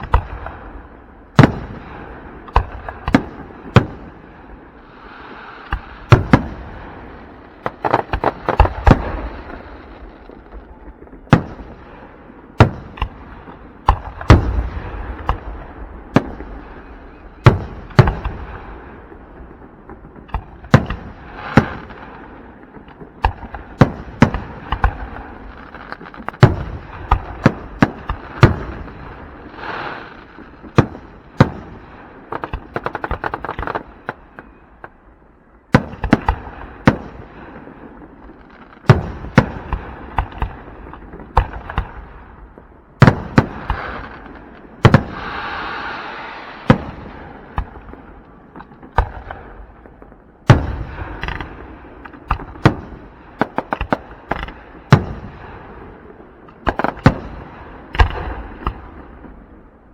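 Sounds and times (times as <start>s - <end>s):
fireworks bursting with bangs: 0.0s - 35.0s, 35.6s - 59.9s
fireworks crackling: 0.0s - 35.0s, 35.8s - 59.5s.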